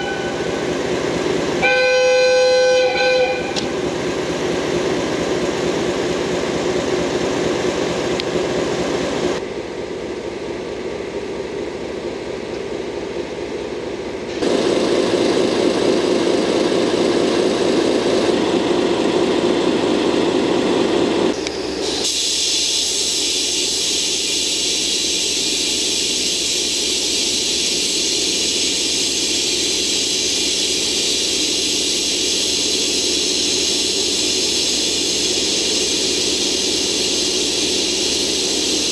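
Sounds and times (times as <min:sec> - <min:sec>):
locomotive engine idling: 0:00.0 - 0:38.9.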